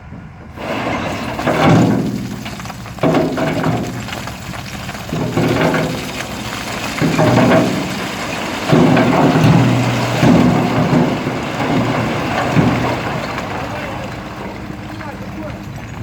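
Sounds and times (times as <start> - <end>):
diesel engine revving: 0.3 - 16.0.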